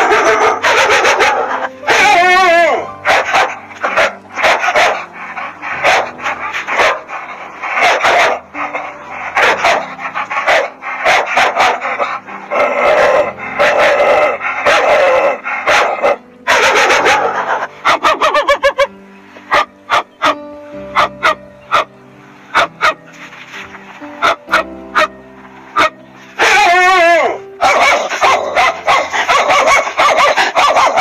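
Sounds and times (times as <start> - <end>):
dog barking: 0.0 - 2.2, 3.0 - 18.9, 19.5 - 21.9, 22.5 - 23.0, 24.2 - 25.1, 25.8 - 31.0.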